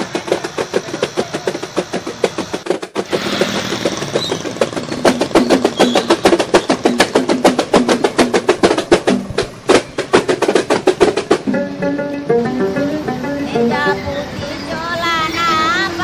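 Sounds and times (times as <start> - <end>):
music with fast drumming: 0.0 - 13.8.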